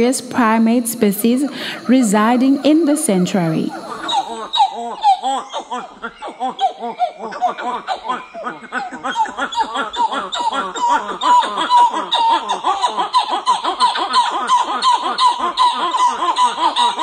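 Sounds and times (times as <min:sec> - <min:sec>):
monkeys chattering: 0:00.0 - 0:17.0.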